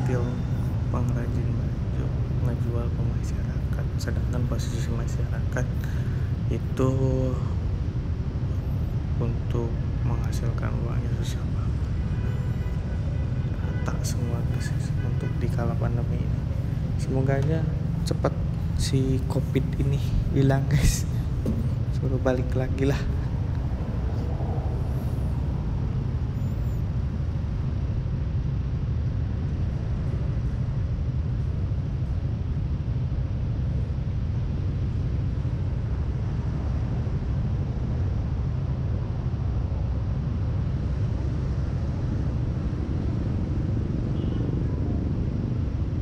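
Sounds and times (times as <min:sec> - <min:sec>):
wind and road rumble: 0:00.0 - 0:46.0.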